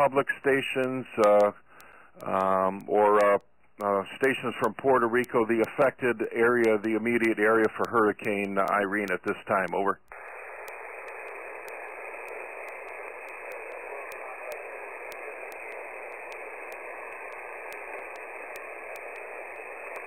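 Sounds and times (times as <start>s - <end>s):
radio static hiss: 0.0s - 20.0s
weak radio station: 0.0s - 20.0s.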